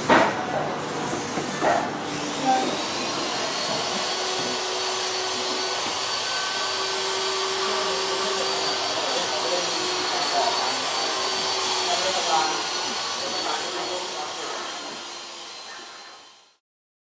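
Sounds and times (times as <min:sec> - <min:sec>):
power tool motor whining: 0:01.0 - 0:16.6.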